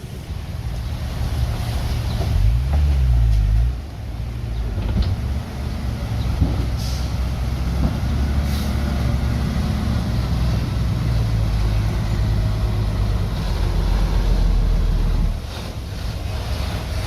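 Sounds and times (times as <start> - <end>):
heavy diesel engine under load: 0.0 - 17.0.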